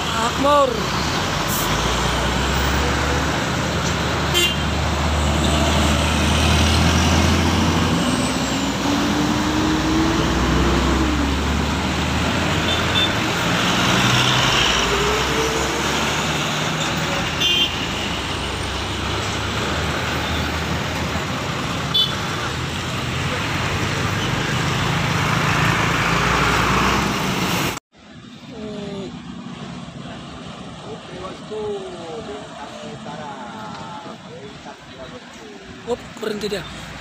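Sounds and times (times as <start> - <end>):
steady traffic noise: 0.0 - 37.0
truck passing: 0.0 - 37.0.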